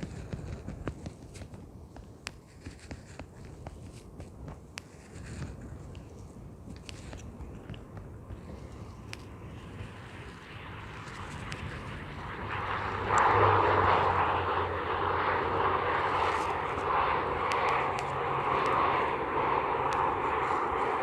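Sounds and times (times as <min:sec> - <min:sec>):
airliner engines passing: 0:00.0 - 0:21.0.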